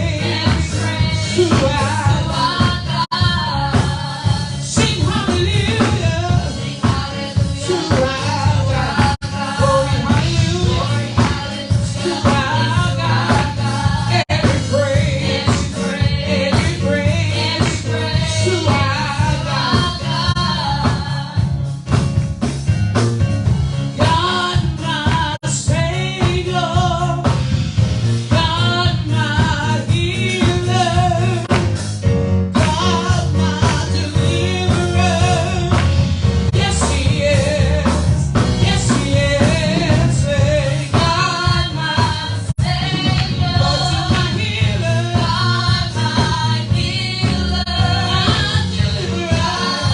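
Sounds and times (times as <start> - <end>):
gospel singing: 0.0 - 22.2, 23.4 - 49.9
instrumental backing track with beat: 0.0 - 49.9.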